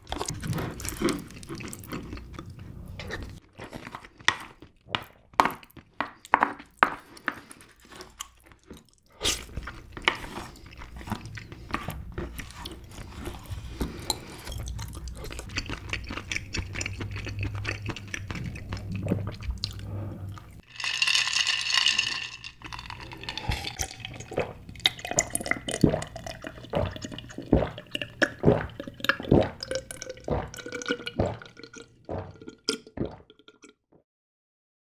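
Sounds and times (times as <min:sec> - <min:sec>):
sipping and gulping a drink: 0:00.0 - 0:33.8
wet slurping and chewing: 0:00.0 - 0:33.8.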